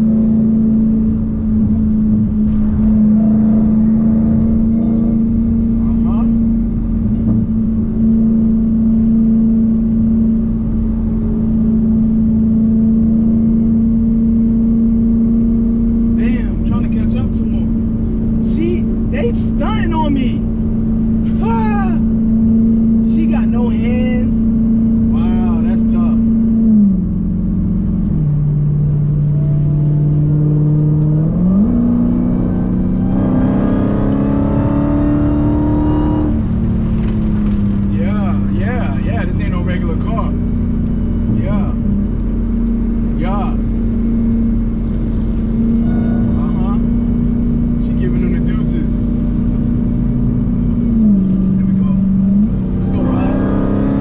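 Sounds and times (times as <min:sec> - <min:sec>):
car engine drone from inside: 0:00.0 - 0:54.0.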